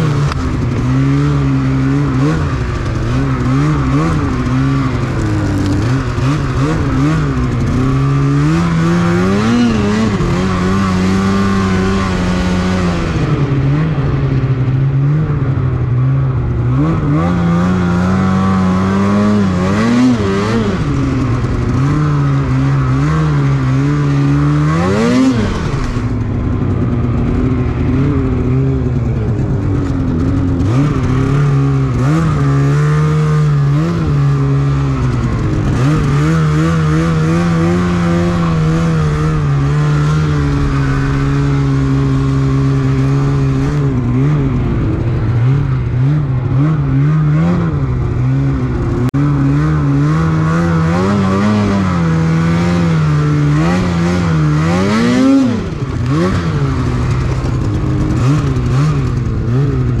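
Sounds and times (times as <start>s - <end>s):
snowmobile engine revving: 0.0s - 60.0s.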